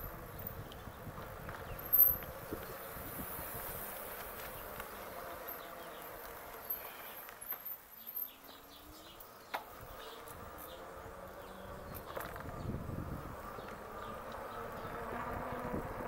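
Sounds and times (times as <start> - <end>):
insects buzzing and trilling: 0.0 - 16.0.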